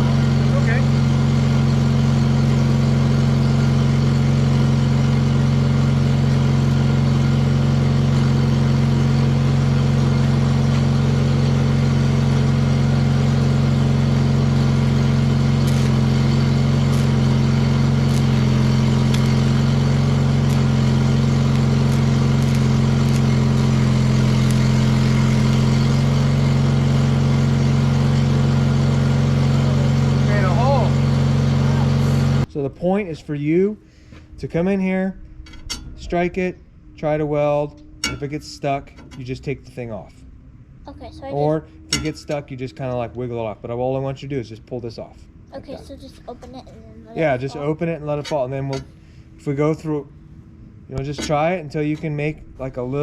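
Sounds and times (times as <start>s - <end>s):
generator engine running: 0.0s - 35.4s, 36.0s - 53.0s.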